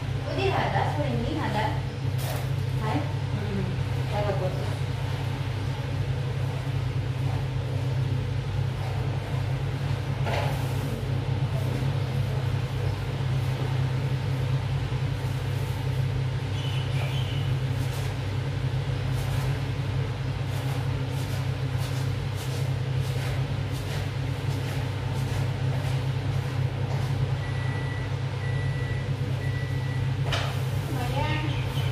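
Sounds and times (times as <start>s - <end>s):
low mechanical hum: 0.0s - 31.9s.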